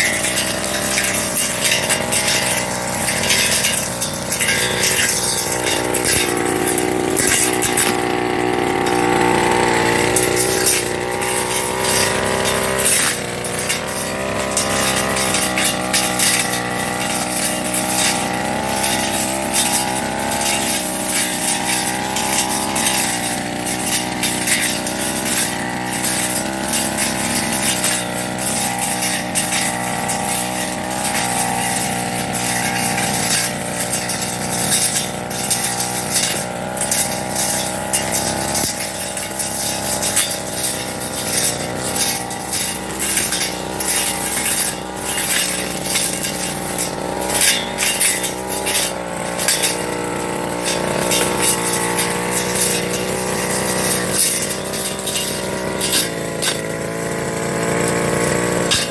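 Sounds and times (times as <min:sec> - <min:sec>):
blade ticking on stems: 0:00.0 - 0:58.9
brush cutter engine running: 0:00.0 - 0:58.9.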